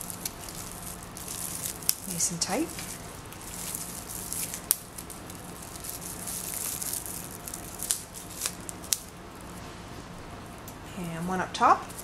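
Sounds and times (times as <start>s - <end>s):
soft rustling of plastic wrap: 0.0s - 12.0s.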